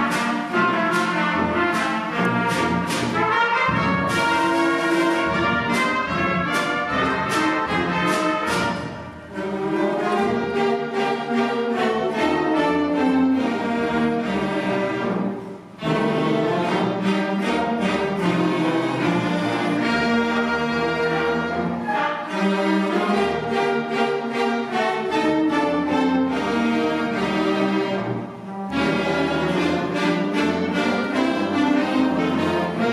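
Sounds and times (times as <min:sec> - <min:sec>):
concert band playing: 0:00.0 - 0:32.9.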